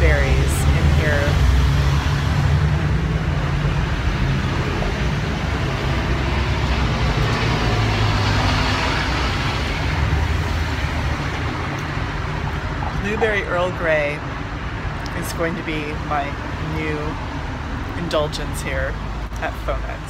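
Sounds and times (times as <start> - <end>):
vehicles engine rumble: 0.0 - 20.0.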